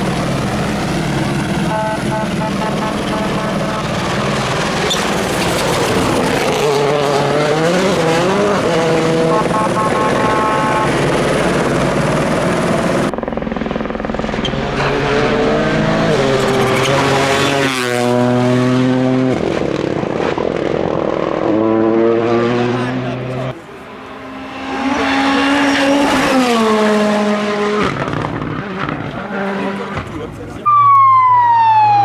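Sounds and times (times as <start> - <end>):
rally car engines passing: 0.0 - 31.2.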